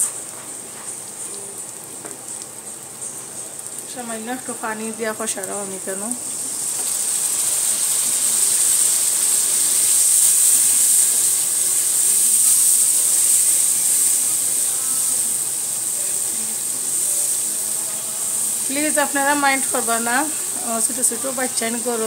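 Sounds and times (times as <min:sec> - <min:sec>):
masala sizzling in a wok: 0:00.0 - 0:22.0.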